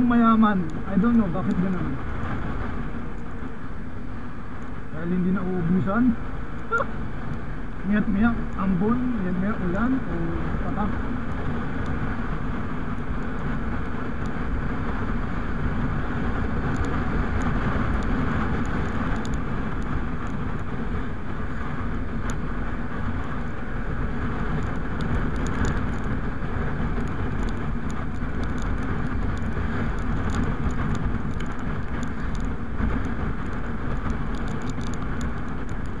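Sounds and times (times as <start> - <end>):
motorcycle engine running: 0.0 - 36.0
tyre and road noise: 0.0 - 36.0
wind rushing over microphone: 0.0 - 36.0.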